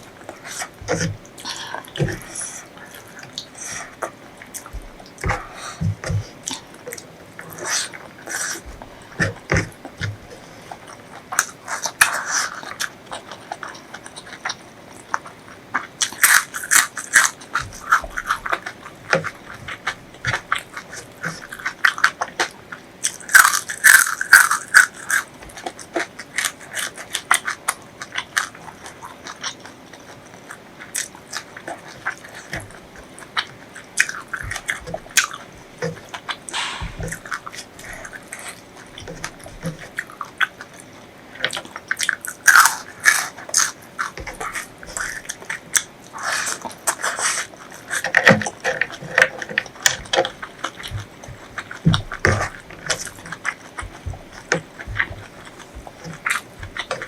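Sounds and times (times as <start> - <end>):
crunchy chewing of food: 0.0 - 57.0.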